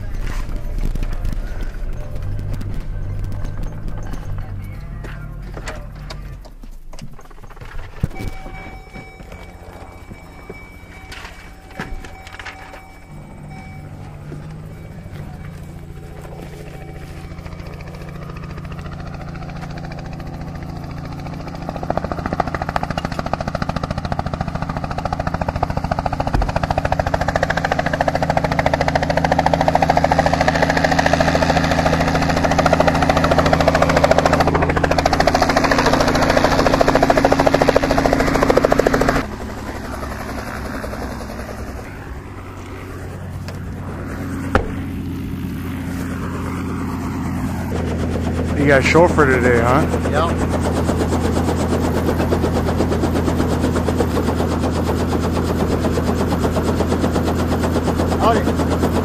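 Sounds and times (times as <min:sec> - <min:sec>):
helicopter rotor and engine: 0:00.0 - 0:59.0.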